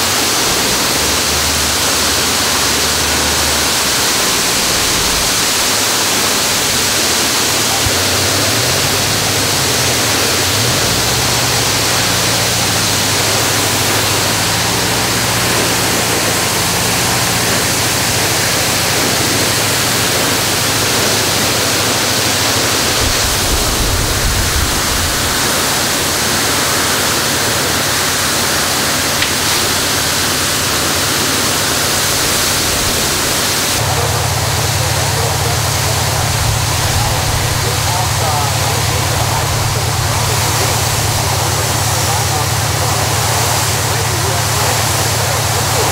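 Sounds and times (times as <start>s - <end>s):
water gushing from hydrant: 0.0s - 45.9s.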